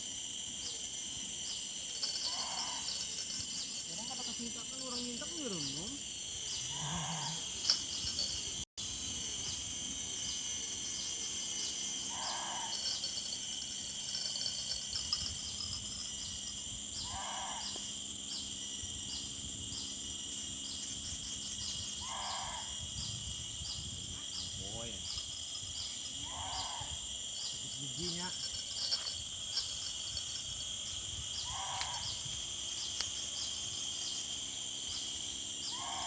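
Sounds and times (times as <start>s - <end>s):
crickets and insects trilling: 0.0s - 36.0s.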